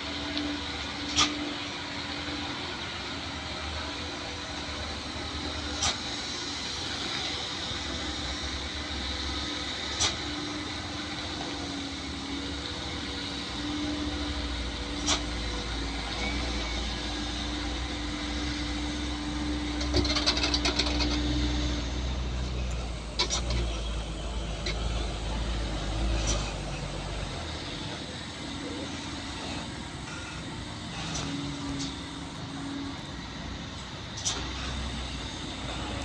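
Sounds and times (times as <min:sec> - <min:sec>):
truck engine rumbling: 0:00.0 - 0:36.0.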